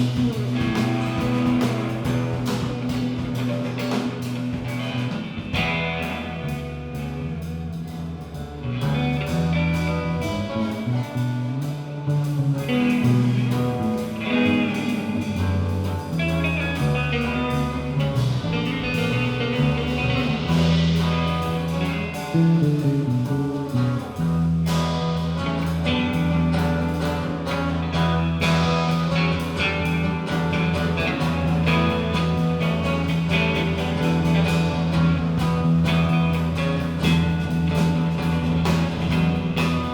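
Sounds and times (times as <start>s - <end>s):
drums keeping time: 0.0s - 11.6s, 12.3s - 39.9s
bass notes: 0.0s - 39.9s
guitar: 0.0s - 39.9s.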